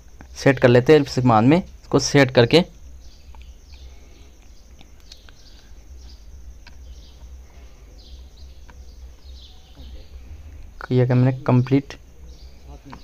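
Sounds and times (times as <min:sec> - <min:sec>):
birds chirping faintly: 0:00.0 - 0:13.0
low steady hum: 0:00.0 - 0:13.0.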